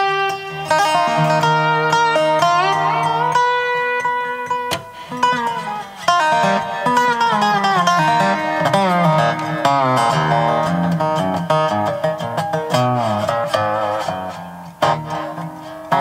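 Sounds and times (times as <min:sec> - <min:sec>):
acoustic guitar: 0:00.0 - 0:16.0
dobro sliding notes: 0:00.0 - 0:16.0.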